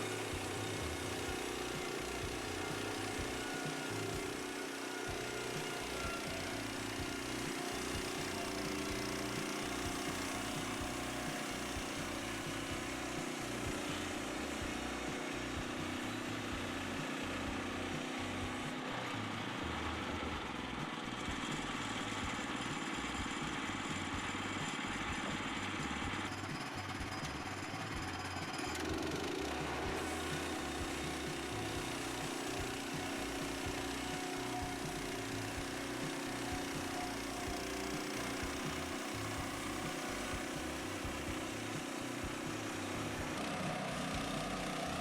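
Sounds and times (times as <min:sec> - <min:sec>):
saw blade cutting log: 0:00.0 - 0:20.2, 0:24.7 - 0:45.0
sawmill petrol engine running: 0:00.0 - 0:45.0.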